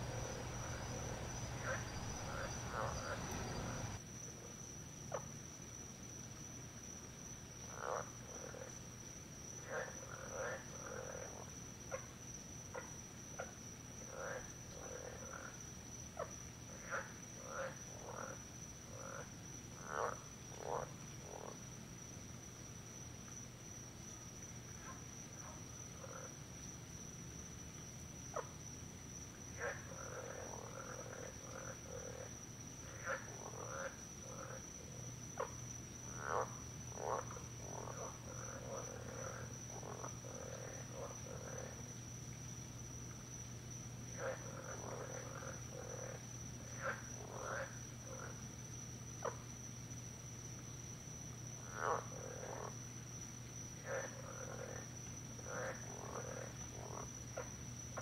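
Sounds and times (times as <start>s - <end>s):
frogs croaking: 0.0s - 4.0s, 7.5s - 22.2s, 23.3s - 58.0s.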